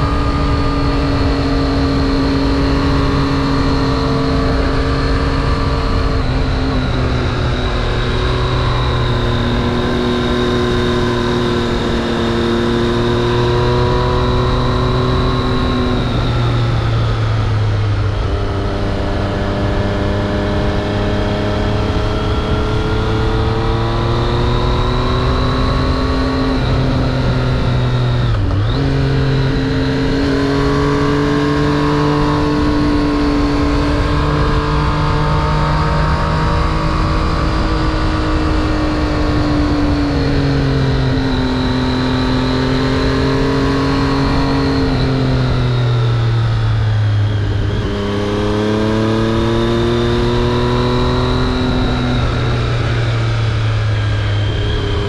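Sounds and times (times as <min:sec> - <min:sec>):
motorcycle engine running: 0:00.0 - 0:55.0
rushing wind: 0:00.0 - 0:55.0.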